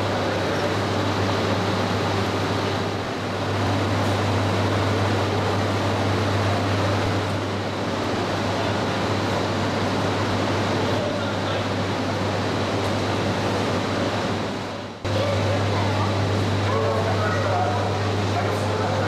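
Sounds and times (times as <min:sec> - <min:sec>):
train air-conditioning hum and rush: 0:00.0 - 0:19.0.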